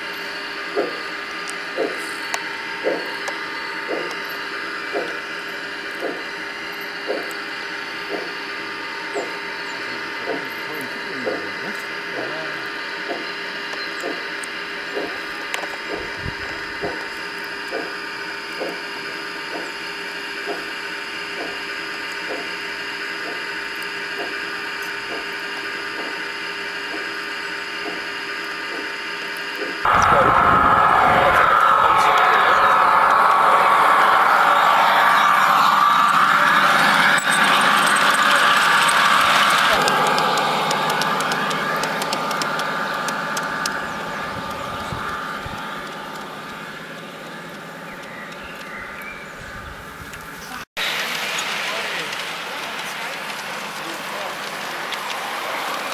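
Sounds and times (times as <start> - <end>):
model train motor whine: 0.0 - 55.9
wheels clicking on track: 9.1 - 55.9.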